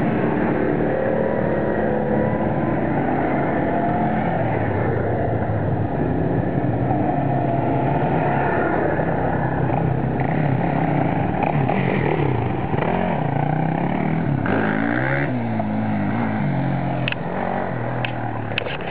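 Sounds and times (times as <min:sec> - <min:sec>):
quad bike engine revving: 0:00.0 - 0:18.9.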